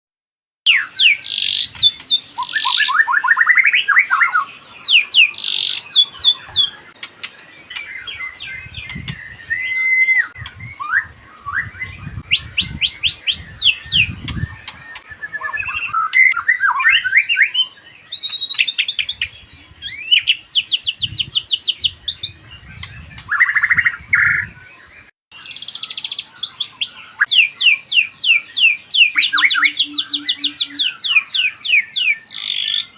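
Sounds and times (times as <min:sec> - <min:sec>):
bird singing whistled trills: 0:00.7 - 0:32.9.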